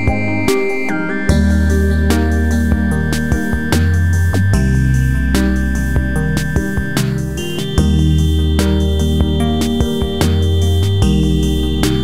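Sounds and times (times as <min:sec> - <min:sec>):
background music with beat: 0:00.0 - 0:12.0
held bass notes: 0:01.2 - 0:12.0.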